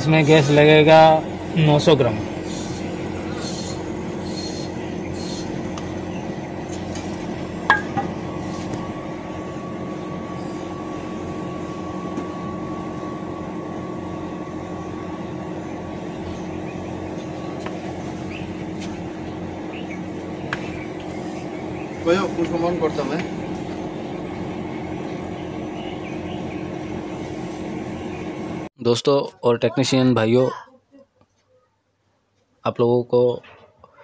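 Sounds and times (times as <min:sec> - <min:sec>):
faint steady whine: 0:00.0 - 0:28.7
air conditioner humming: 0:00.0 - 0:30.6.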